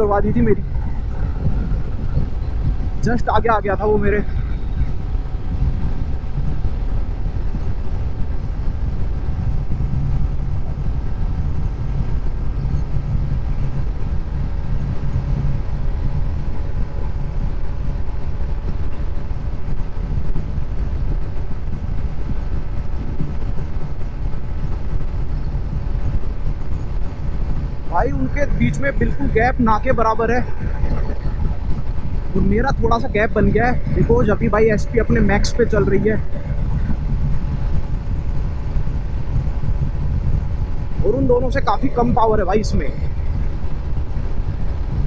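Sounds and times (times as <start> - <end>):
wind rumble on microphone: 0.0 - 45.0.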